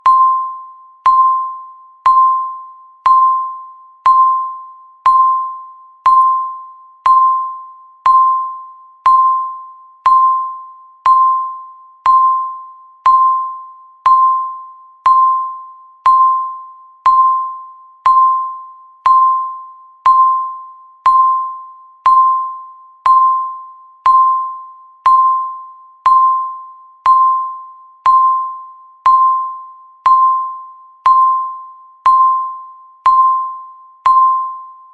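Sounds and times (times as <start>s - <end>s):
timer beeping: 0.0s - 34.9s.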